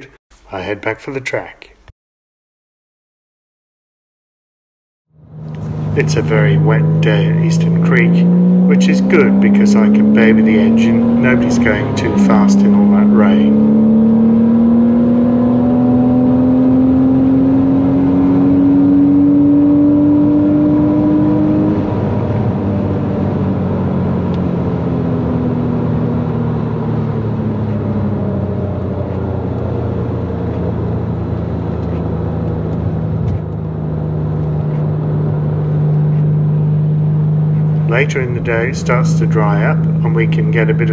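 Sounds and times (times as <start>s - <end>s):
car engine accelerating: 5.1s - 40.9s.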